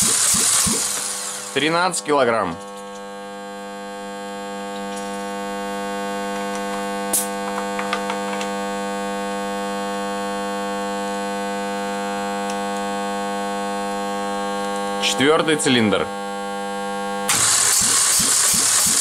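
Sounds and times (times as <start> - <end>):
electrical mains hum: 0.7 - 17.4.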